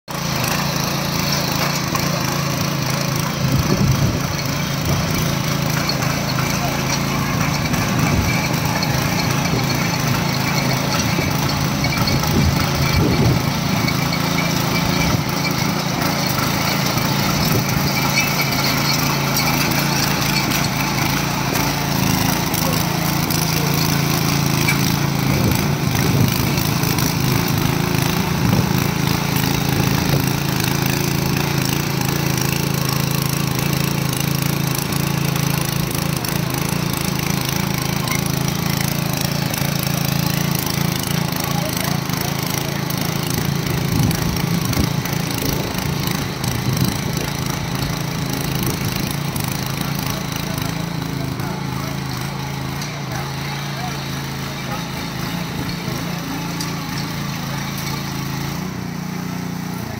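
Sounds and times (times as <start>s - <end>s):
power weeder engine running: 0.1s - 59.9s
rotary tines churning soil: 0.1s - 59.9s.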